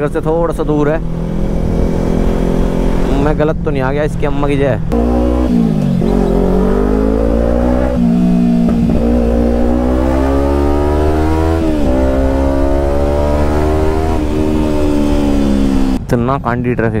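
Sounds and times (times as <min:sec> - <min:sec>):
motorcycle engine accelerating: 0:00.5 - 0:16.0.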